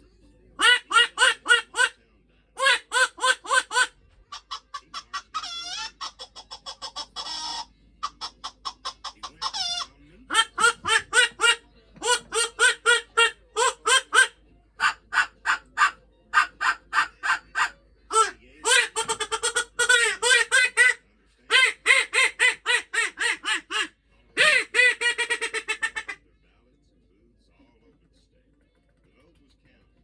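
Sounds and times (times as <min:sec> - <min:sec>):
barnyard fowl calling: 0:00.6 - 0:02.0, 0:02.6 - 0:26.2
fowl squawks: 0:00.6 - 0:02.0, 0:02.6 - 0:26.2.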